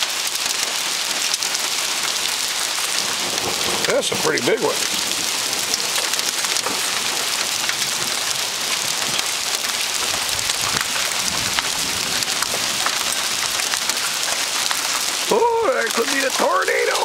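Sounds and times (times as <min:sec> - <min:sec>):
hail falling: 0:00.0 - 0:17.0
hailstones ticking on surfaces: 0:00.0 - 0:17.0.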